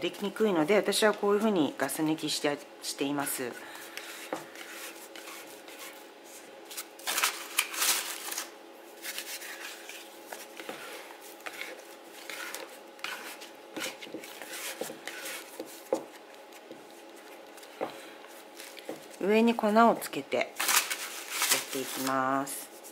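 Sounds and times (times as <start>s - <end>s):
baking paper rustling and crinkling: 3.7s - 19.7s, 20.5s - 22.9s.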